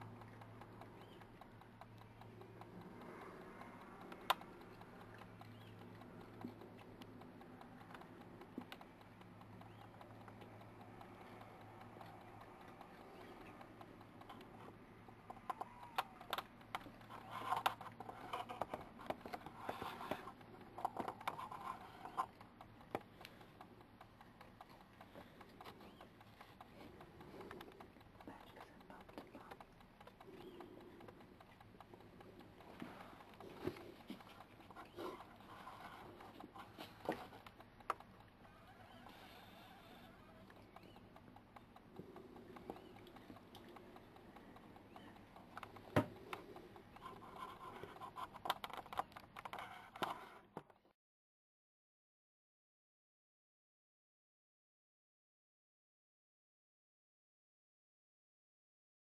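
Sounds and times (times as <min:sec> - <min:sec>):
badgers crunching food: 0:00.0 - 0:49.6
low steady hum: 0:00.0 - 0:50.4.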